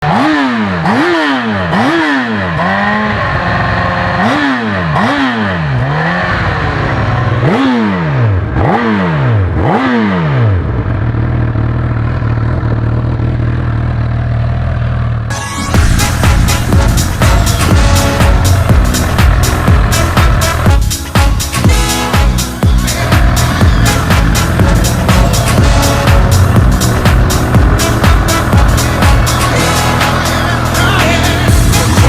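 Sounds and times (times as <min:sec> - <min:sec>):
motorcycle engine idling: 0:00.0 - 0:32.0
motorcycle engine revving: 0:00.0 - 0:32.0.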